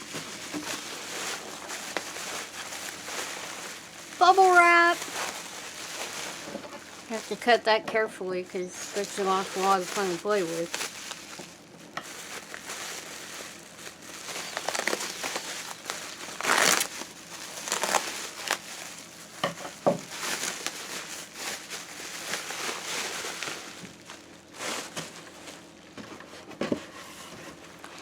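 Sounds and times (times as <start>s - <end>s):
bubble wrap crinkling: 0.0s - 26.0s, 27.6s - 28.0s.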